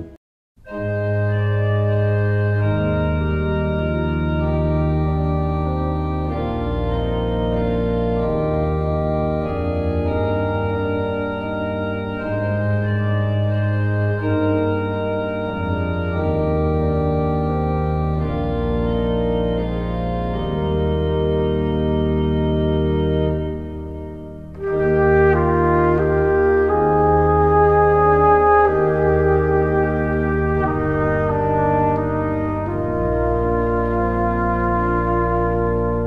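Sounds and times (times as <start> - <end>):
organ playing slow chords: 0.0 - 36.0.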